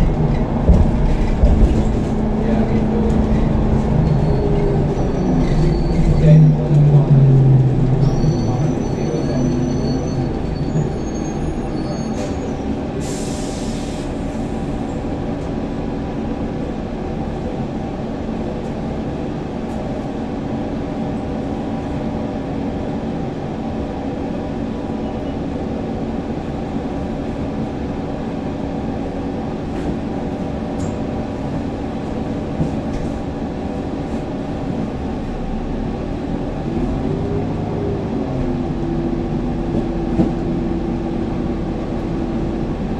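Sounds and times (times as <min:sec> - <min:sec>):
vehicle engine rumble: 0:00.0 - 0:23.0, 0:28.0 - 0:42.9.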